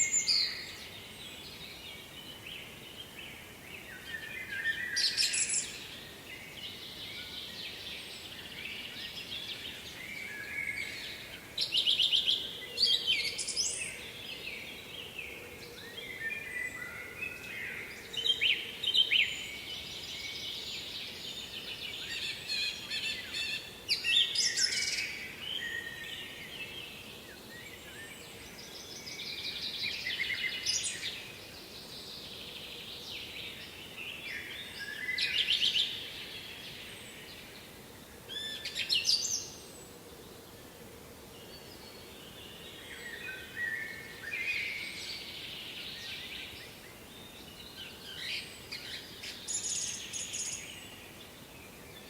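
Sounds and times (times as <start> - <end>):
songbirds singing trills: 0.0 - 40.7, 41.3 - 52.0
faint background hiss: 0.0 - 52.0.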